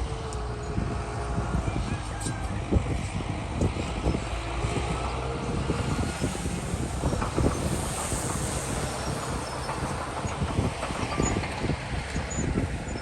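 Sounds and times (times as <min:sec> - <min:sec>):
diesel machinery running: 0:00.0 - 0:13.0.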